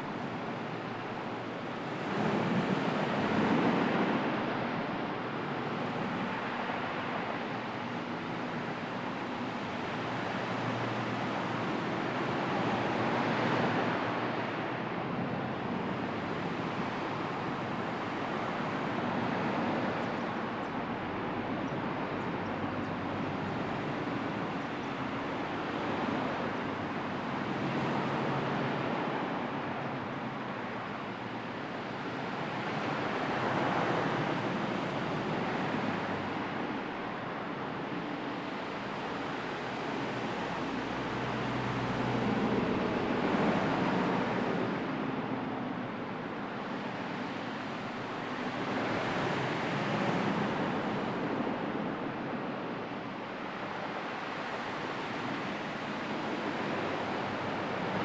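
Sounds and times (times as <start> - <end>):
sea waves breaking: 0.0 - 58.0
wind: 0.0 - 58.0.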